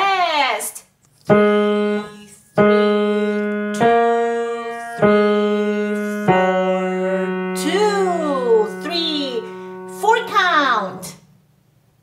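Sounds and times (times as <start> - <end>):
piano single notes: 1.3 - 11.2.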